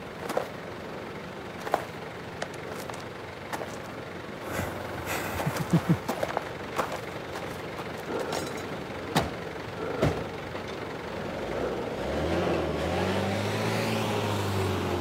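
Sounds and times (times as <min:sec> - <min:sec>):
truck engine humming: 0:00.0 - 0:12.7.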